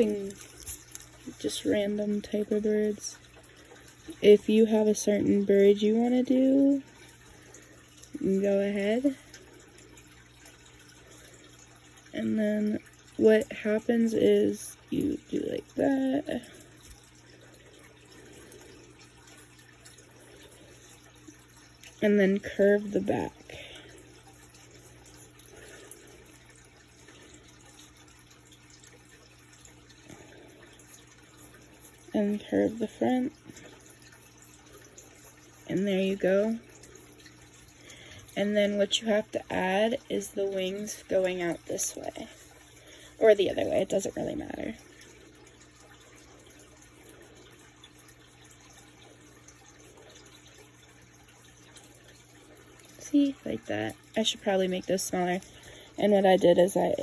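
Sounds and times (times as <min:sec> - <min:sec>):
low hum and hiss: 0:00.0 - 0:57.0.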